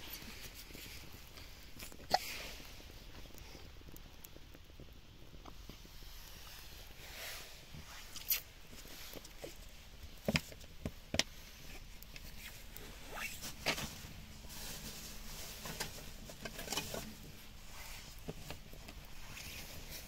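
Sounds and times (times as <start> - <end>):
wood fire crackles and pops: 0.0 - 20.0.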